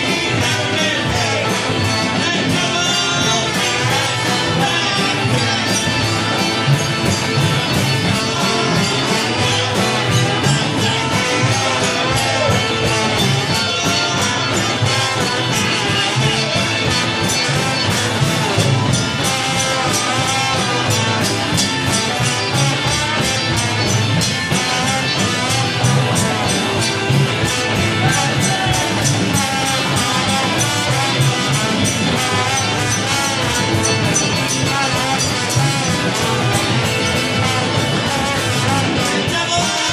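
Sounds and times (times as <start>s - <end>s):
drum beat: 0.0s - 39.9s
electric guitars: 0.0s - 39.9s.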